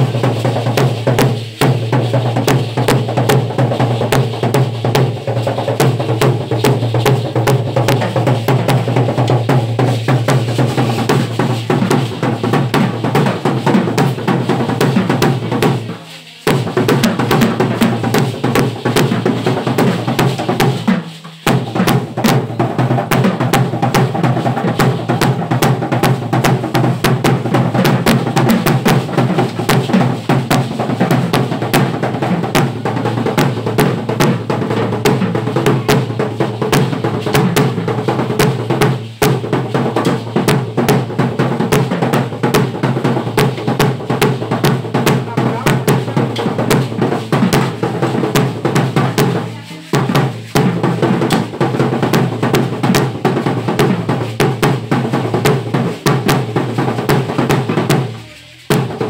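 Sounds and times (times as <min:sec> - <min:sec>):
drum and percussion music: 0:00.0 - 0:59.0.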